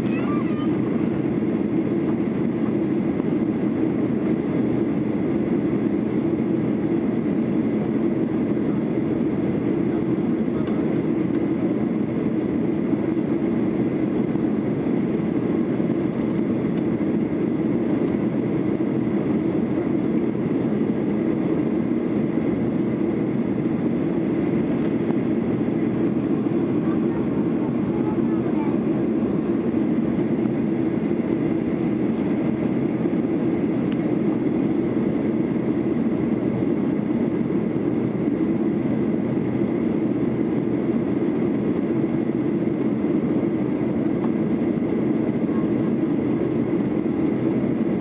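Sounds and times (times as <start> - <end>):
airplane cabin engine roar: 0.0 - 48.0.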